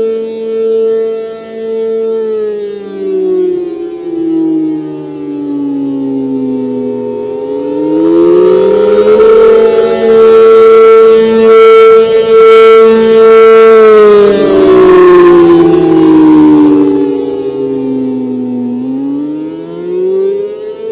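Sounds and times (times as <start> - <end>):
rotating siren two-tone chord: 0.0 - 20.9.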